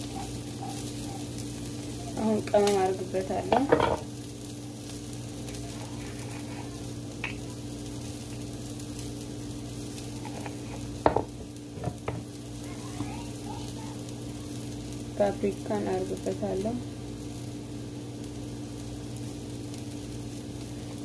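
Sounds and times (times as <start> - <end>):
chickpeas sizzling in oil: 0.0 - 21.0.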